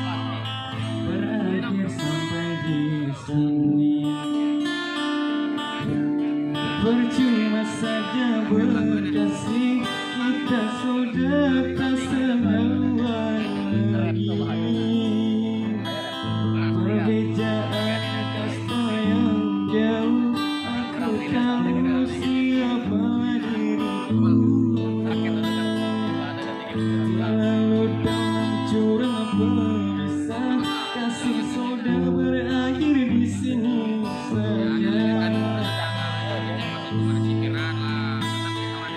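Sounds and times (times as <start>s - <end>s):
acoustic guitars playing: 0.0s - 38.9s.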